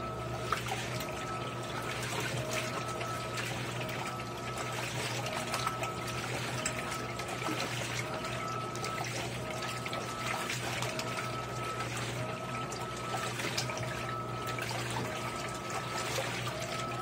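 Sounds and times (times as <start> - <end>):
washing machine motor hum: 0.0 - 17.0
water sloshing and churning: 0.0 - 17.0.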